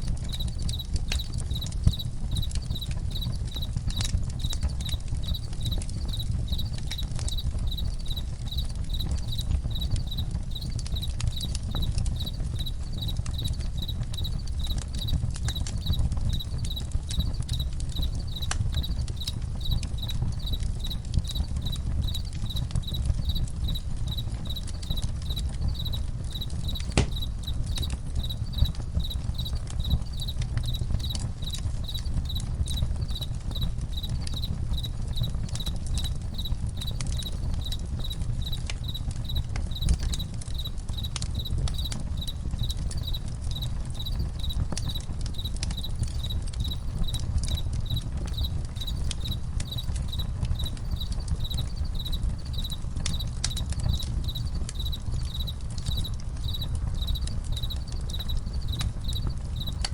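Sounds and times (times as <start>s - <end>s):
campfire crackling and popping: 0.0s - 59.9s
crickets chirping: 0.1s - 59.9s.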